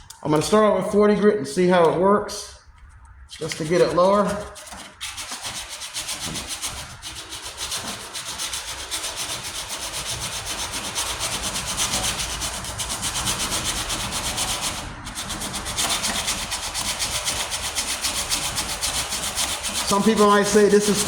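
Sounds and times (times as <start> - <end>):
sandpaper rubbing on metal: 3.4 - 21.0.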